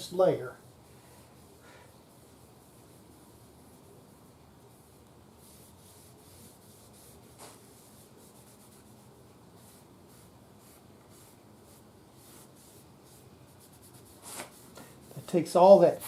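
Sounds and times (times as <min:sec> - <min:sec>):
rubbing strokes on wood: 0:00.0 - 0:16.0.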